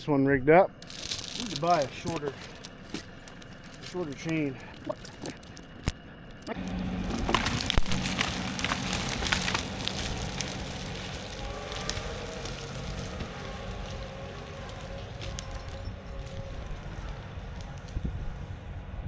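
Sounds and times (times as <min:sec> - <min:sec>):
tractor engine: 0:00.8 - 0:19.0
branches cracking and snapping: 0:01.2 - 0:18.8.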